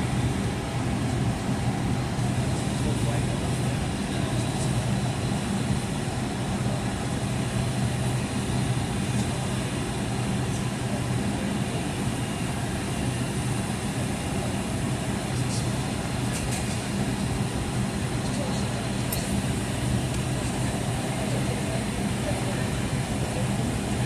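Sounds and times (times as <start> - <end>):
aircraft cabin engine hum: 0.0 - 24.0.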